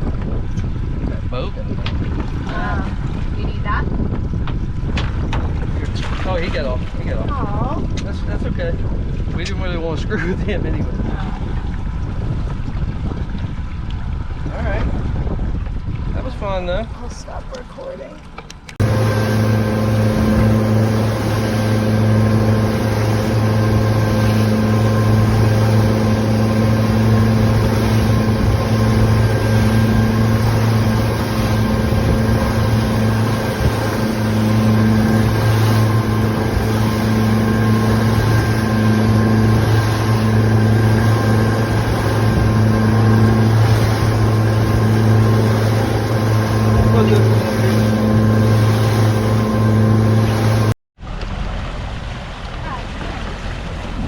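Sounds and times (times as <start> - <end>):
boat motor droning: 0.0 - 54.0.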